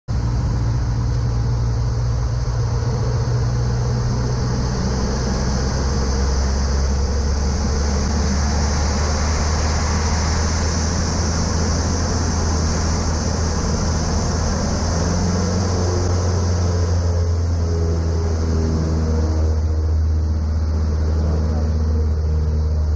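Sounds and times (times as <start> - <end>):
piston aircraft engine droning: 0.1 - 22.9
airflow hiss: 1.8 - 20.8.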